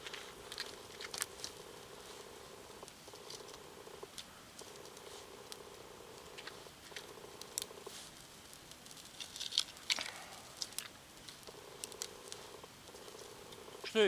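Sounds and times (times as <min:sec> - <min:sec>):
faint steady hum: 0:00.0 - 0:14.0
tinder crackling and snapping: 0:00.0 - 0:14.0.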